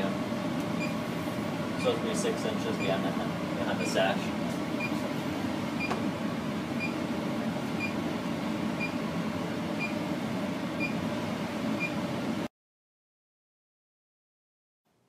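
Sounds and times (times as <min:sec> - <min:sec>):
cabinet blower fan hum: 0:00.0 - 0:12.5.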